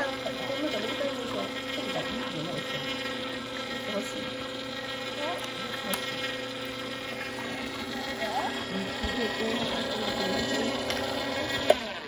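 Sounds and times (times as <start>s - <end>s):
juicer motor humming: 0.0s - 12.0s.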